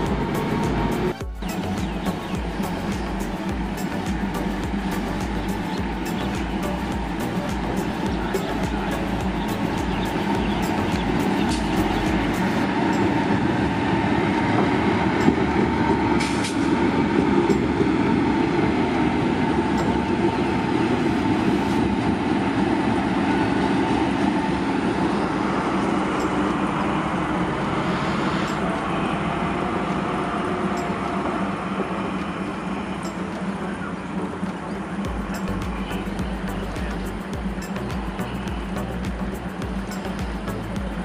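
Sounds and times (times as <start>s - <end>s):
diesel locomotive engine running: 0.0s - 41.0s.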